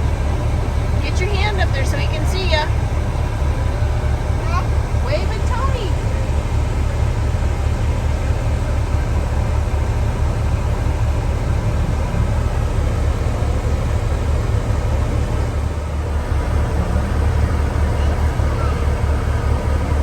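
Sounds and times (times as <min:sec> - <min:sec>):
harvester engine running: 0:00.0 - 0:20.0.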